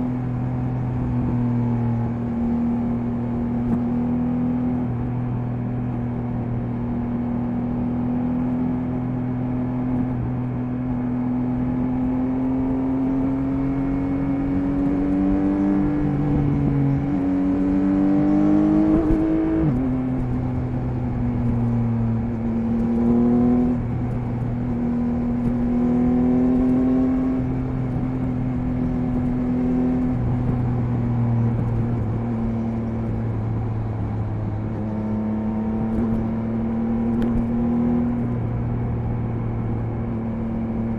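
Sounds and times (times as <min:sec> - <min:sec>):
motorcycle engine at speed: 0:00.0 - 0:40.9.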